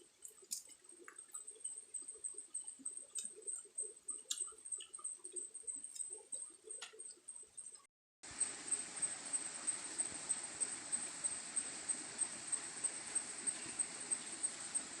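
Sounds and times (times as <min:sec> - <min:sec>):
constant hiss: 0:00.0 - 0:15.0
insect chirping: 0:01.3 - 0:15.0.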